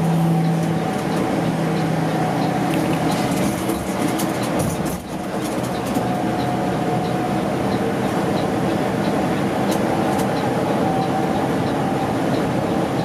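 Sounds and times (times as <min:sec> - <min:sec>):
diesel engine drone: 0:00.0 - 0:13.0
tyre and road noise: 0:00.0 - 0:13.0.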